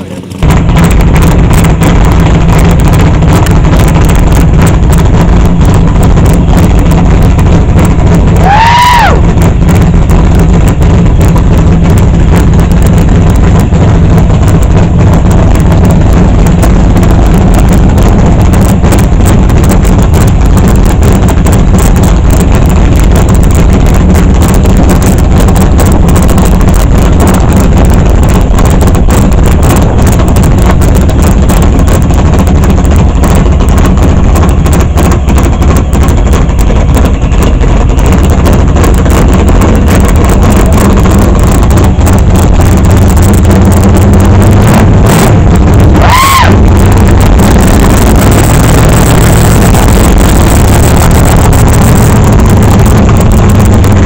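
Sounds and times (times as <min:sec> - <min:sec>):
car engine idling loudly: 0:00.0 - 0:54.0.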